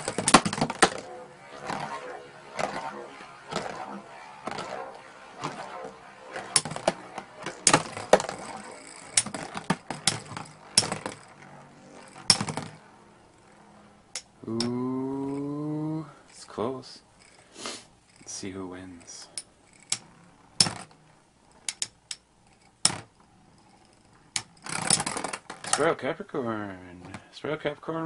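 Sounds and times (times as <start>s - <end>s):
spinning tops clacking together: 0.0s - 16.5s, 17.1s - 25.9s
whir of spinning tops: 0.0s - 27.2s.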